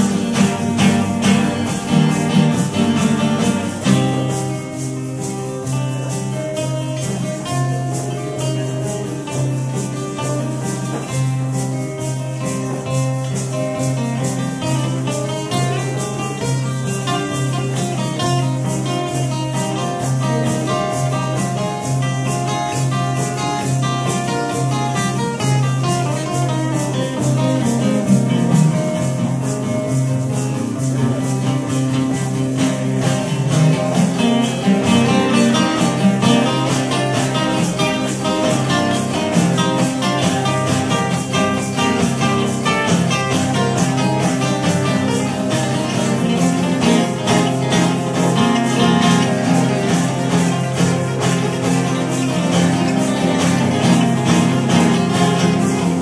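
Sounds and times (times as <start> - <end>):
acoustic guitars strumming: 0.0 - 56.0.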